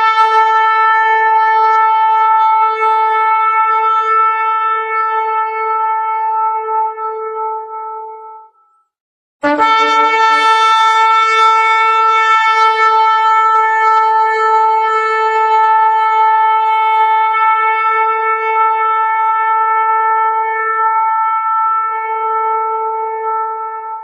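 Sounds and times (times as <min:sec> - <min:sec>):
shofar long blast: 0:00.0 - 0:08.6, 0:09.4 - 0:24.0.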